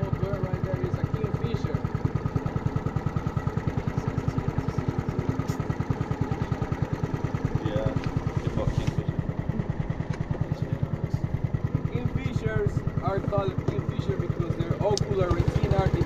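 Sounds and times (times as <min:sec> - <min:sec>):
small engine chugging: 0:00.0 - 0:16.0.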